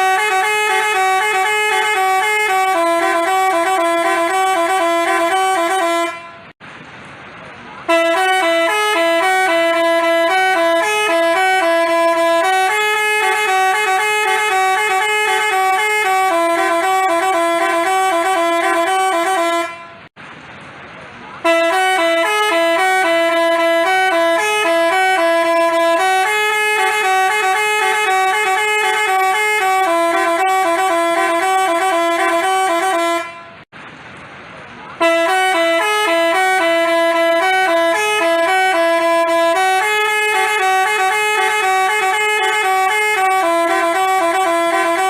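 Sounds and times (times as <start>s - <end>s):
multi-tone horn playing a tune: 0.0s - 6.6s, 7.9s - 20.1s, 21.4s - 33.7s, 35.0s - 45.0s.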